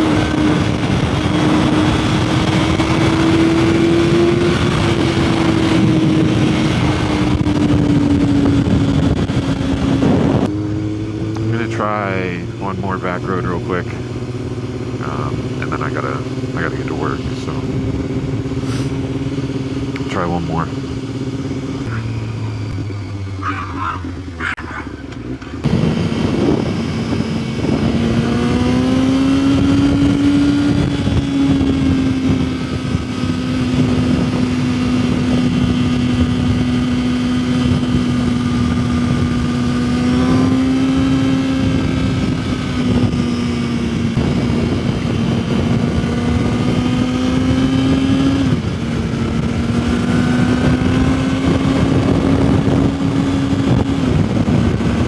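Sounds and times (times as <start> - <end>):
wind rush: 0.0 - 24.8, 25.5 - 55.0
motorcycle engine at high revs: 0.0 - 55.0.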